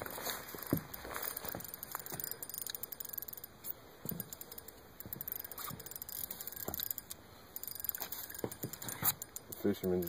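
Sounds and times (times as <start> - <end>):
fishing reel ticking: 0.5 - 10.0.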